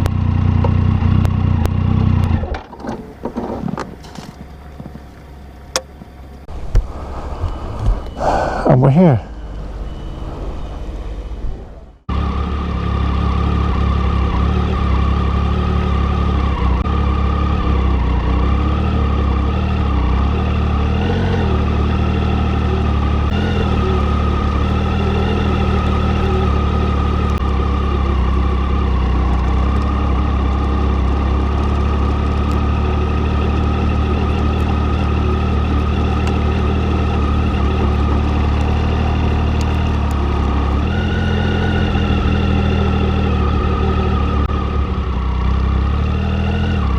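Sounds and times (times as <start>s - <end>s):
motorcycle engine running: 0.0s - 6.6s, 12.1s - 46.9s.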